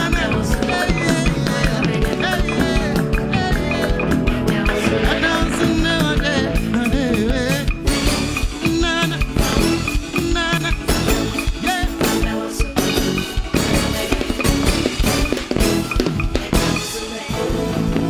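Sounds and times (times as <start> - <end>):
live band music: 0.0 - 18.0.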